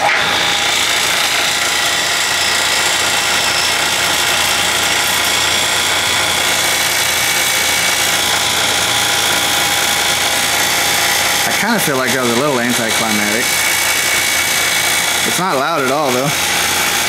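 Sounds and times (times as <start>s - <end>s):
vacuum pump humming and whining: 0.0s - 17.0s.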